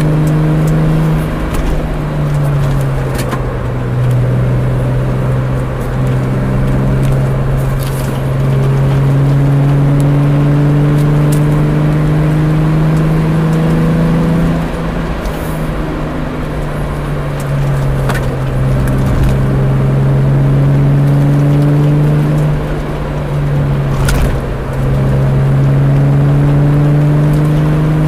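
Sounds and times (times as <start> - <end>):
car engine drone: 0.0 - 28.0
road noise: 0.0 - 28.0.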